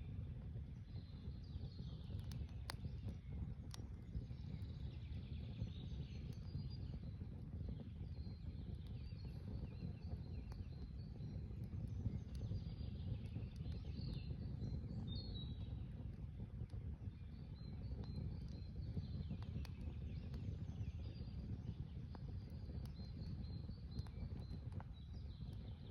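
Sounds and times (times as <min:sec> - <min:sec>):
small birds chirping: 0:01.1 - 0:25.9.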